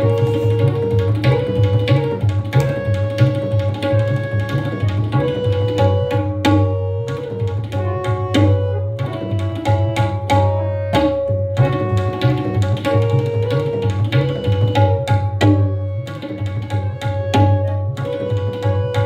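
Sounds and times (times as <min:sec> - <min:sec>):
held melodic accompaniment: 0:00.0 - 0:19.0
tabla drumming: 0:00.0 - 0:19.0.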